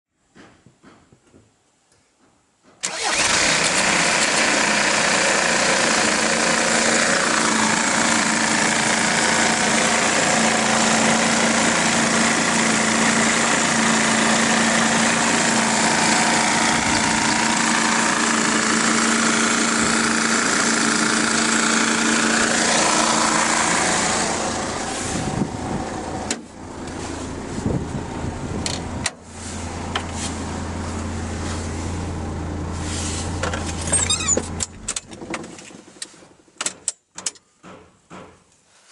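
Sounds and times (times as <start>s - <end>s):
diesel engine running: 2.8s - 35.6s.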